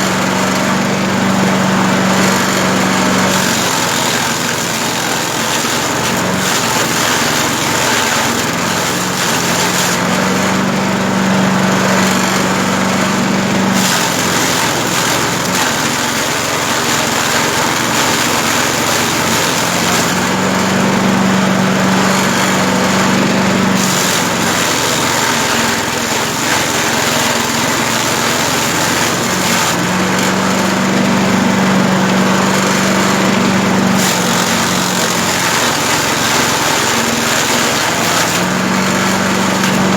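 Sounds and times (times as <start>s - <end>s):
grass chopper engine running: 0.0s - 39.9s.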